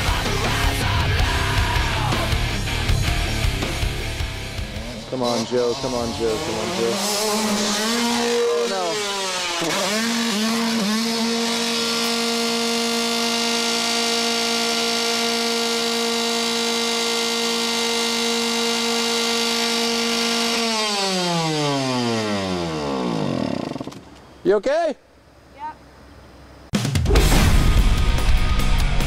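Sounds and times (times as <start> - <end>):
engine revving: 0.0 - 24.1.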